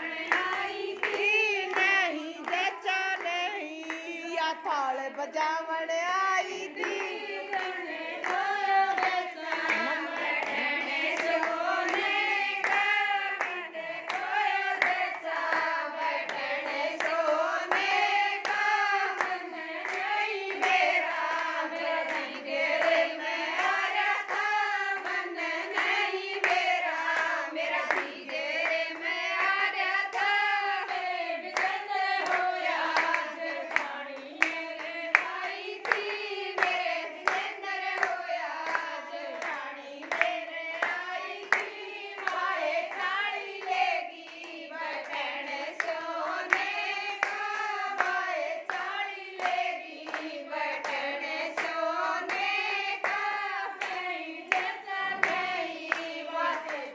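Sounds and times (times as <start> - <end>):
women singing folk song: 0.0 - 56.9
hands clapping in time: 0.2 - 28.8, 29.4 - 56.9.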